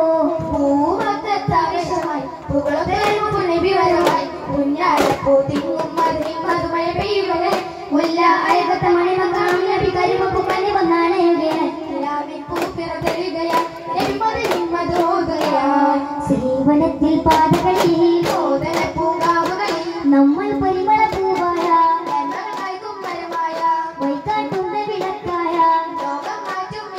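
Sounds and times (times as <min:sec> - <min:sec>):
boys singing: 0:00.0 - 0:26.9
frame drums beating: 0:00.3 - 0:26.9.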